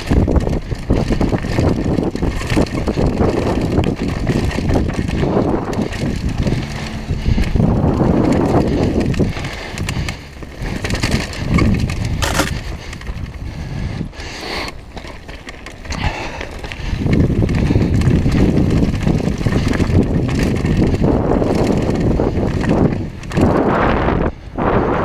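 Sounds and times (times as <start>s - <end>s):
bike rattling over bumps: 0.0s - 25.0s
bike tyres on loose gravel: 0.0s - 25.0s.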